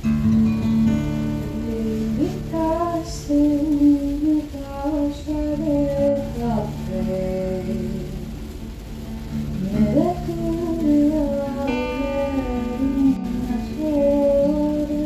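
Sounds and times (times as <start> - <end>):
strummed acoustic guitar: 0.0 - 15.0
high voice singing: 1.2 - 15.0.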